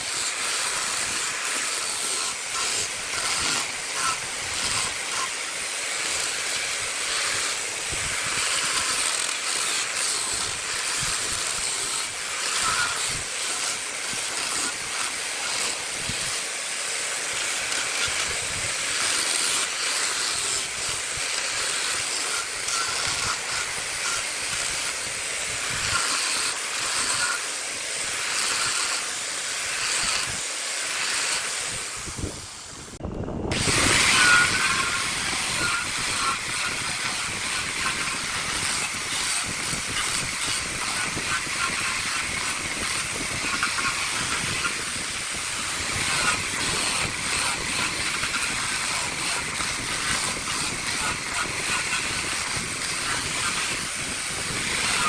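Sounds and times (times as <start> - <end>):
wood lathe hiss: 0.0 - 55.0.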